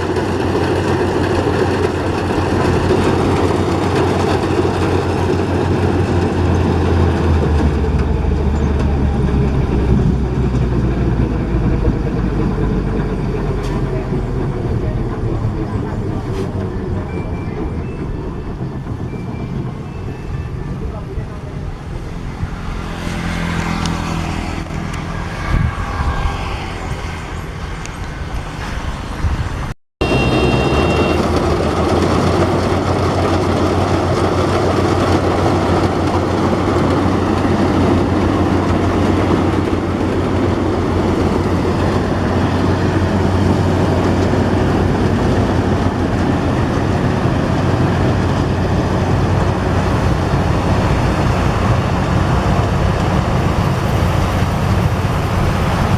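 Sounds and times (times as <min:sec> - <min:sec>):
diesel engine drone: 0:00.0 - 0:55.9
harvesting machinery noise: 0:00.0 - 0:55.9.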